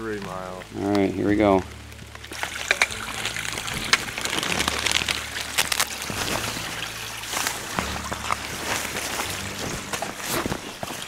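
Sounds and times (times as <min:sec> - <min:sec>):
raindrop ticks: 0:00.0 - 0:11.0
steady rain: 0:00.0 - 0:11.0
footsteps on wet rock and mud: 0:02.0 - 0:11.0.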